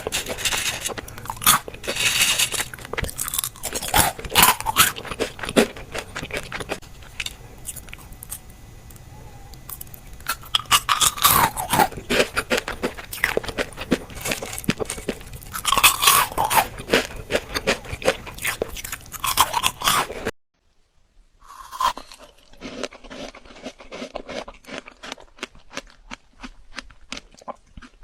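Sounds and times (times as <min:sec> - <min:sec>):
frozen fruit crunching: 0:00.0 - 0:20.3, 0:21.4 - 0:28.0.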